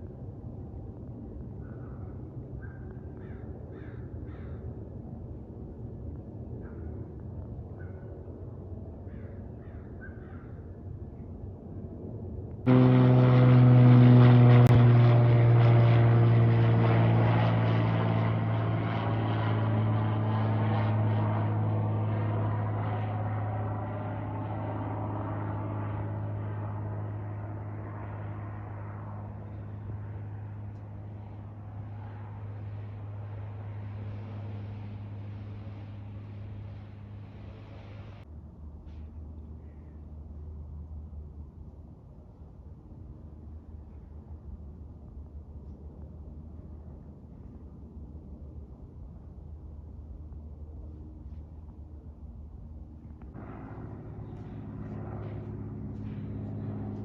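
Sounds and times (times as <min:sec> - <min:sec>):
aircraft droning overhead: 0:00.0 - 0:57.0
faint outdoor background: 0:00.0 - 0:57.0.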